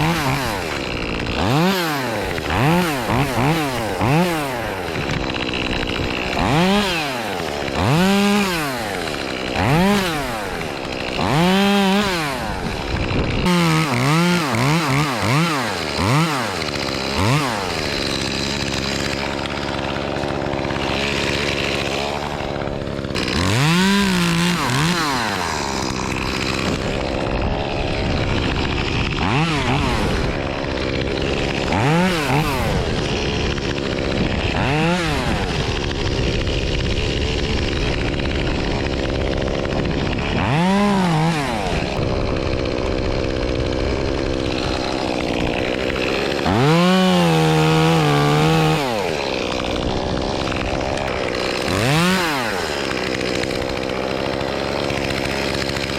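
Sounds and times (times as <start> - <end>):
chainsaw revving and idling: 0.0 - 55.9.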